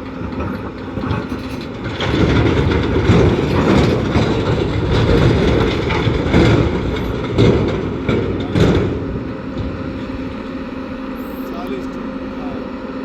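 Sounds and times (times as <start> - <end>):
heavy diesel machinery engine: 0.0 - 13.0
machinery rattling and clanking: 0.0 - 13.0.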